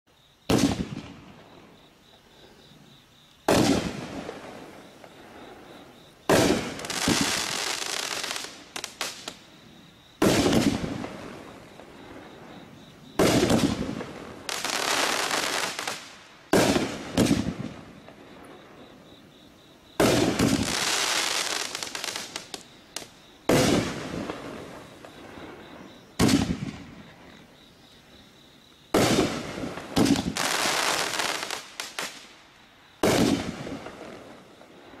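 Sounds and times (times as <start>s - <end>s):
firework bangs: 0.5s - 1.8s, 3.4s - 9.5s, 10.2s - 18.8s, 20.0s - 27.3s, 28.9s - 32.3s, 33.0s - 35.0s
firework crackling: 0.5s - 1.8s, 3.4s - 9.6s, 10.2s - 18.8s, 20.0s - 27.4s, 28.9s - 35.0s.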